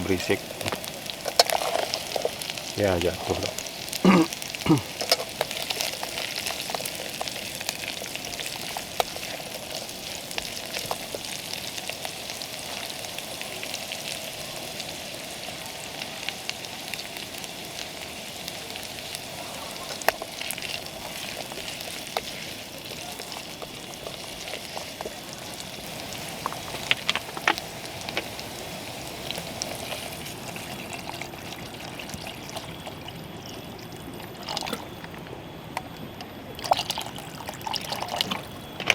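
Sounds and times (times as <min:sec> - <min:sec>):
food sizzling: 0:00.0 - 0:35.7.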